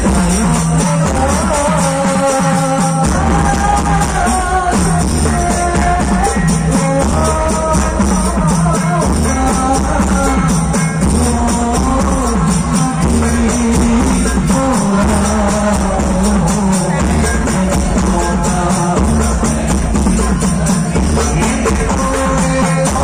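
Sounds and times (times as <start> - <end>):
frame drums beating: 0.0 - 23.0
group singing in unison: 0.0 - 23.0.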